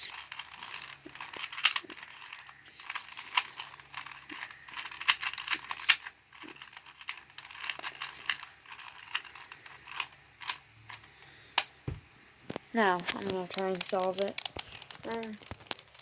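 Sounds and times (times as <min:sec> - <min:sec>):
puzzle cube clicking: 0:00.1 - 0:10.6, 0:13.1 - 0:16.0.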